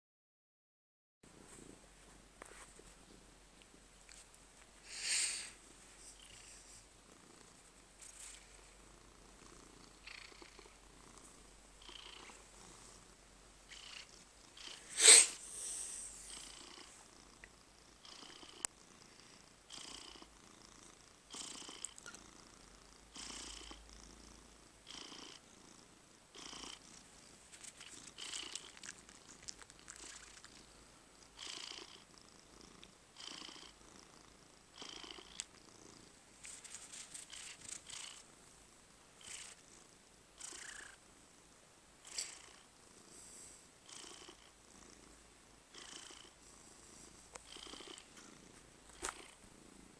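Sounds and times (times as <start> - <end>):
cat purring: 1.3 - 49.9.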